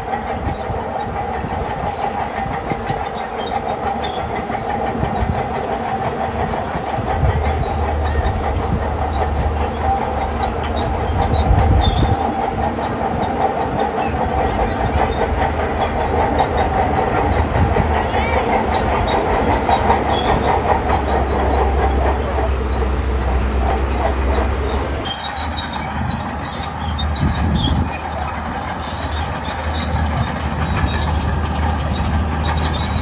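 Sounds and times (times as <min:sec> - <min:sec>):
steel tracks clattering: 0:00.0 - 0:33.0
diesel engine rumbling: 0:04.0 - 0:33.0.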